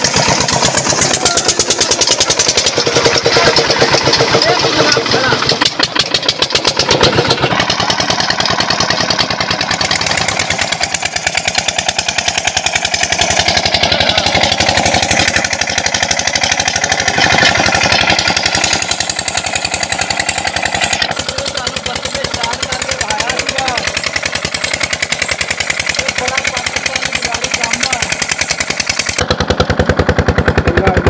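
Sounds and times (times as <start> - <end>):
water gushing from a pipe: 0.0 - 29.3
diesel engine running: 0.0 - 31.0.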